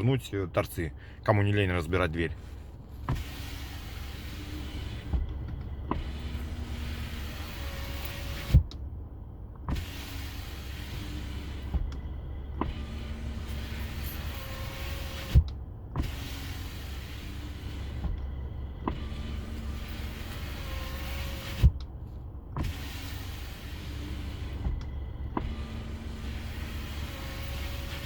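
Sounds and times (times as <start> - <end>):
power window motor running: 2.9 - 8.9, 9.6 - 28.0.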